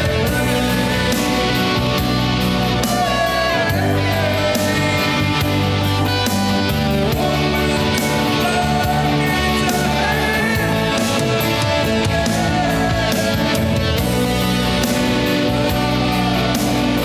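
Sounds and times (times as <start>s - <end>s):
drums and cymbals: 0.0s - 17.0s
guitars: 0.0s - 17.0s.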